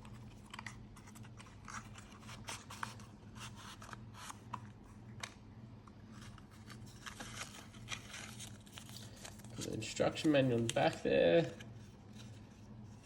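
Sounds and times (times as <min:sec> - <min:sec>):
cardboard and plastic rustling: 0:00.0 - 0:13.0
low steady hum: 0:00.0 - 0:13.0.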